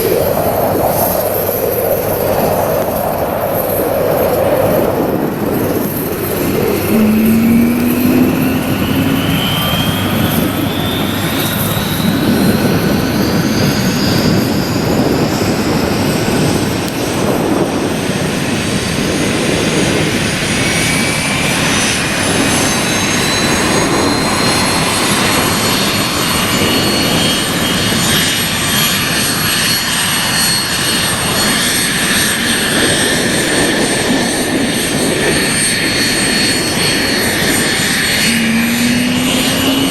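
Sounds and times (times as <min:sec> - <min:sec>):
jet engines spooling up: 0:00.0 - 0:39.9.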